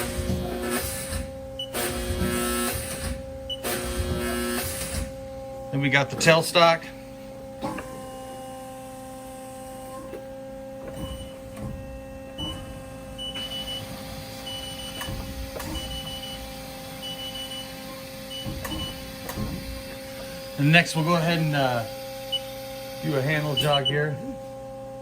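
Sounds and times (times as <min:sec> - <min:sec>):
steady whirring: 0:00.0 - 0:24.4
lathe humming: 0:00.0 - 0:25.0.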